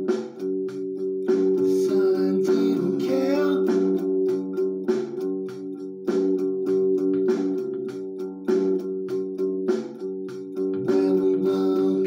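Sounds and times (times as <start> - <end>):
guitar music: 0.0 - 12.0.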